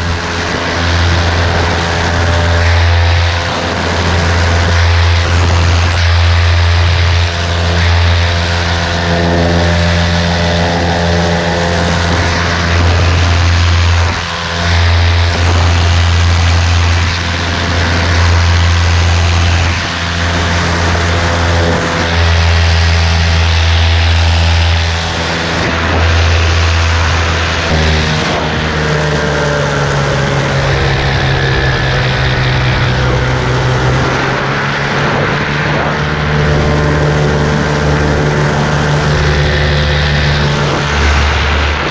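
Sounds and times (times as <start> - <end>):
paramotor engine and propeller drone: 0.0 - 41.9.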